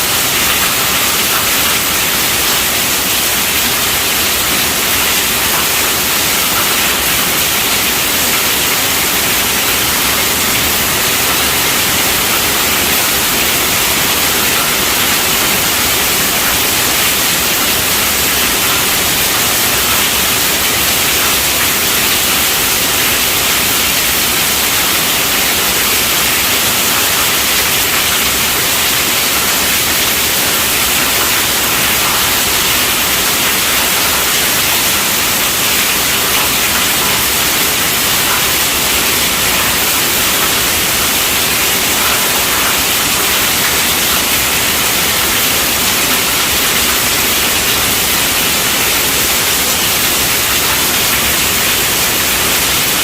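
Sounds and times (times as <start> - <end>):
heavy rain on a tent roof: 0.0 - 53.0.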